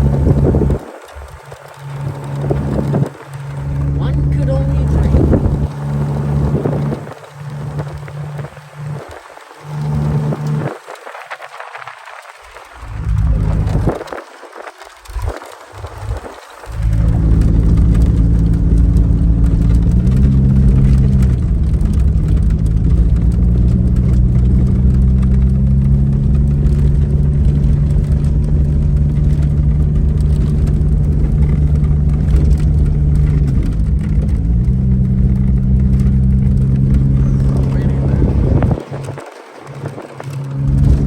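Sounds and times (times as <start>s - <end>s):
car engine running: 0.0s - 41.0s.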